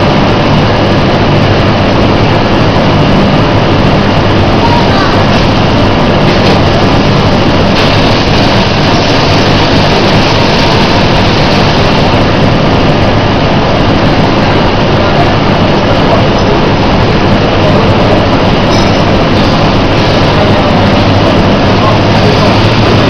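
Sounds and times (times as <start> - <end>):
low hum: 0.0 - 23.0
machinery droning: 0.0 - 23.0.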